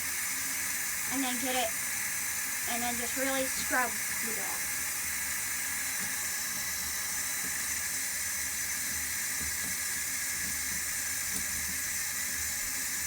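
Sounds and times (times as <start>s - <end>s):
tap water running into tub: 0.0s - 13.0s.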